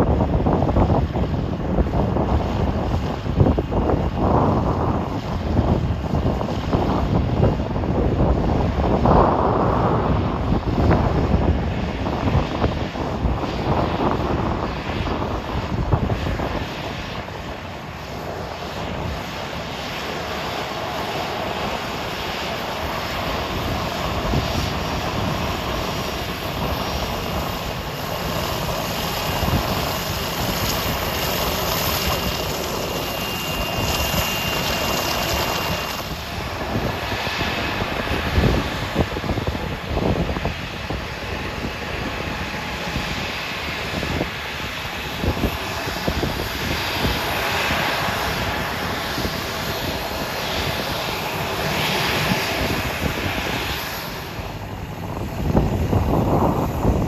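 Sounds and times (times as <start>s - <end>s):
jet engines at taxi power: 0.0s - 57.0s
thin high engine whine: 0.0s - 57.0s.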